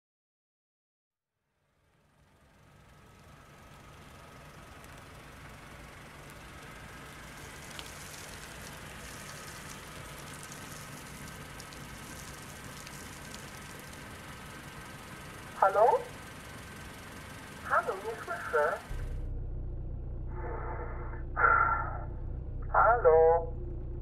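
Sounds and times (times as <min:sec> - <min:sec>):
car engine running: 0:01.6 - 0:24.0.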